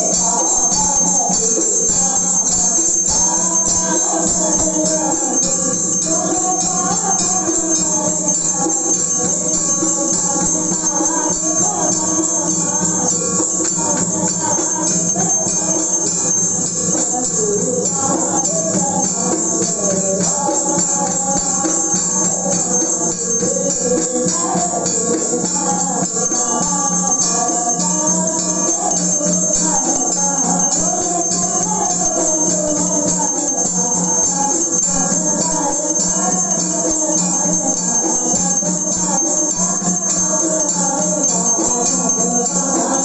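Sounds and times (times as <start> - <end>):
hand bell ringing: 0.0 - 43.0
person singing devotional melody: 0.0 - 43.0.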